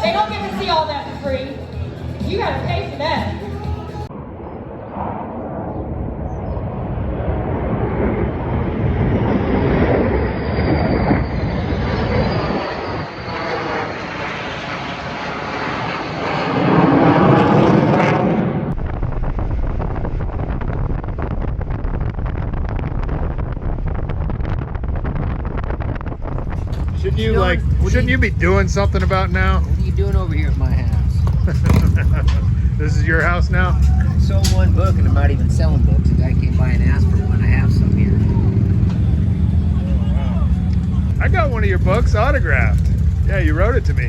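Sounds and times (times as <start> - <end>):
jet aircraft roar: 0.0 - 44.0
wind noise on microphone: 4.0 - 13.8, 16.8 - 44.0.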